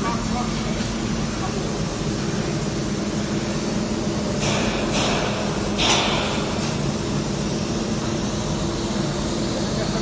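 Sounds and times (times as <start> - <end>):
laser cutting machine hum: 0.0 - 10.0.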